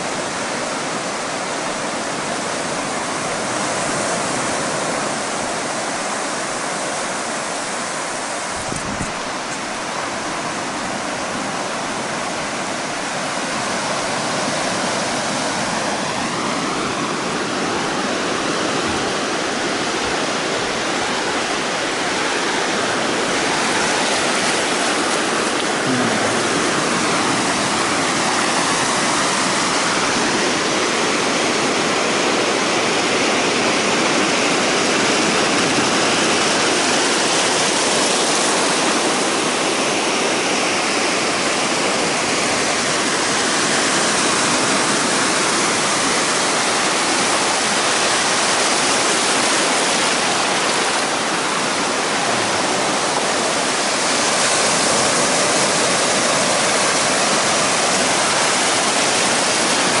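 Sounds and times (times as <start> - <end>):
waves breaking on sandy beach: 0.0 - 60.0.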